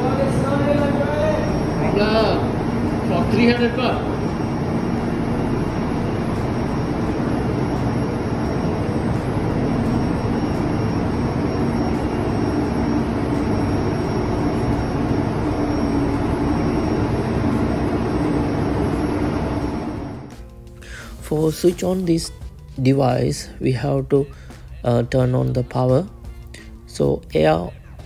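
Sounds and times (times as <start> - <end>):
machinery drone with low hum: 0.0 - 28.0.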